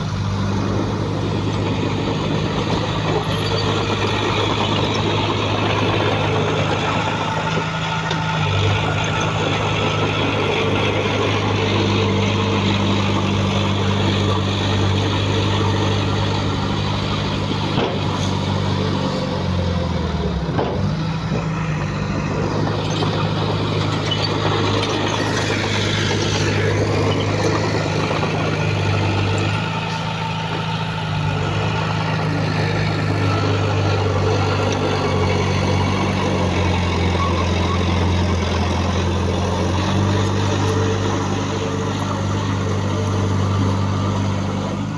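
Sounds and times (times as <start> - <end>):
heavy machine diesel engine running: 0.0 - 44.9.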